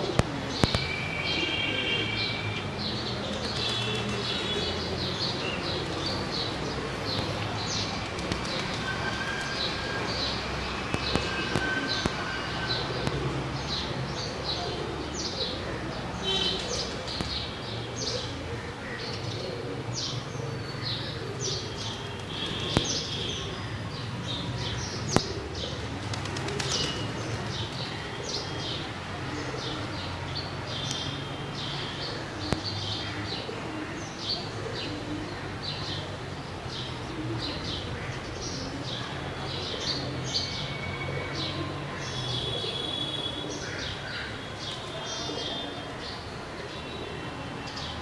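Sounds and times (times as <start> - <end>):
pigeons cooing: 0.0 - 47.9
birds chirping: 0.0 - 48.0.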